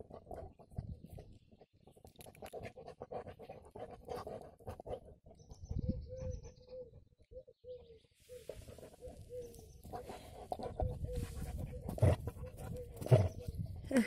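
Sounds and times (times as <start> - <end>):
dog sniffing and panting: 0.0 - 6.8, 8.3 - 13.7.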